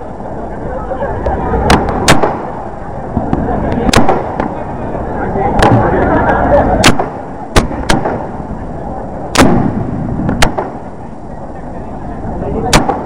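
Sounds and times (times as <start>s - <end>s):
steady noisy background: 0.0s - 13.0s
fireworks bangs: 1.2s - 13.0s.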